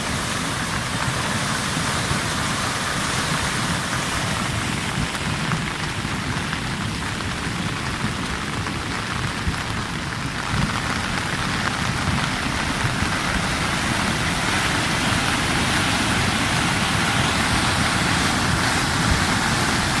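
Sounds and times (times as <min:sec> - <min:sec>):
heavy rain falling: 0:00.0 - 0:20.0
river water rushing: 0:00.0 - 0:20.0.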